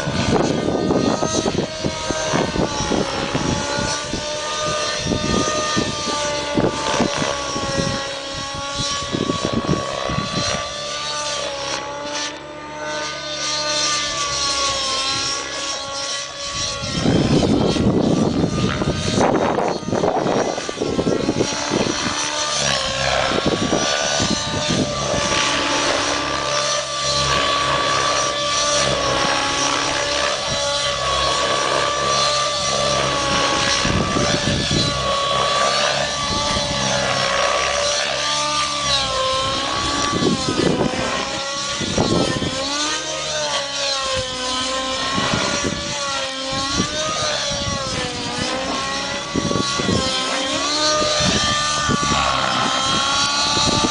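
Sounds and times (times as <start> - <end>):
rc helicopter engine and rotor whine: 0.0 - 53.9.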